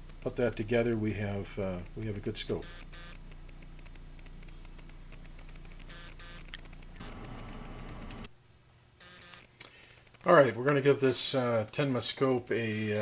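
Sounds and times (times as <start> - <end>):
low electrical hum with crackle: 0.0 - 13.0.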